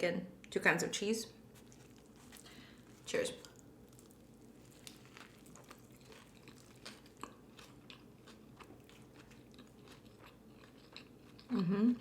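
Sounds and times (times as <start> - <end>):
chewing food: 1.5 - 12.0.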